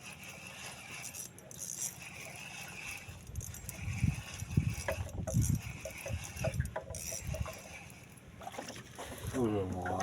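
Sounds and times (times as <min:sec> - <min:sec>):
fishing reel clicking: 0:00.0 - 0:08.3.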